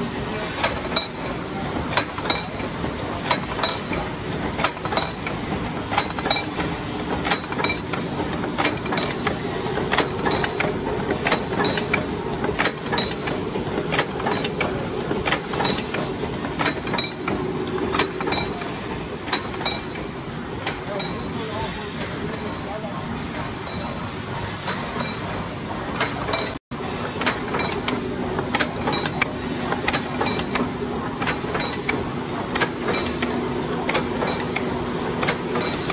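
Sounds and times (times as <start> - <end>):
rapid metallic clicks and knocks: 1.8 - 21.1, 24.6 - 35.9.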